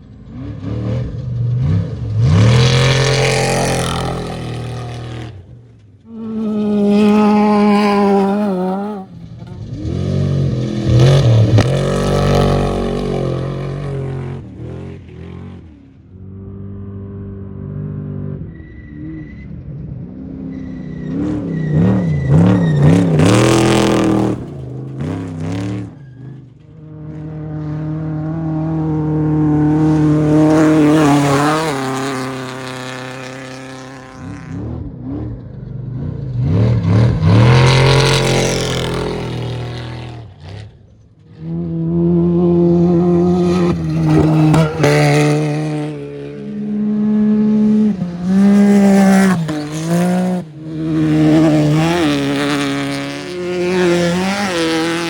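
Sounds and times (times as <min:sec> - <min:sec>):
off-road vehicles passing at full throttle: 0:00.0 - 0:55.0.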